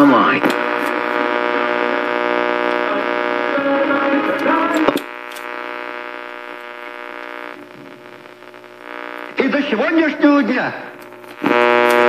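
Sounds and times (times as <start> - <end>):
radio hum: 0.0 - 12.0.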